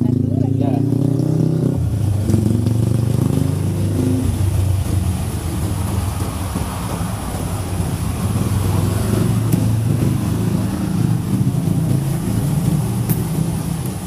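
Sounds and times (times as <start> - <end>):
engine low rumble: 0.0 - 14.0.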